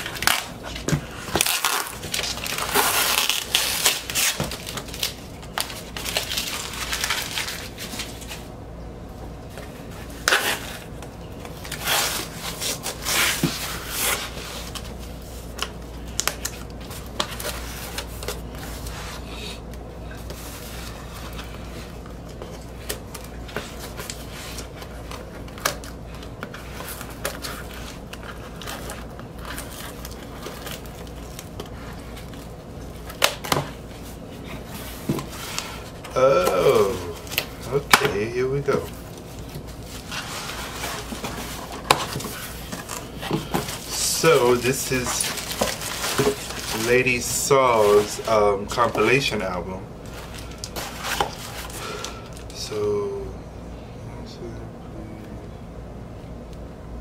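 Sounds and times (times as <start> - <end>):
packing tape crinkling and tearing: 0.0 - 8.5, 10.1 - 19.0, 20.4 - 49.3, 50.0 - 52.6
low steady hum: 0.0 - 57.0.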